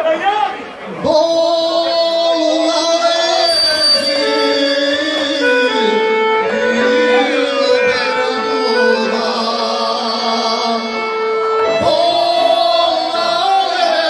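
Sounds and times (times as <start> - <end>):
man singing into microphone: 0.9 - 14.0
accordion: 2.4 - 14.0.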